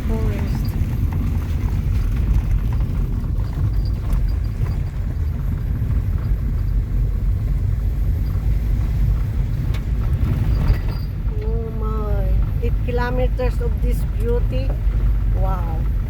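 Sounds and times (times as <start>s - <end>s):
car tyres and engine rumble: 0.0s - 16.0s.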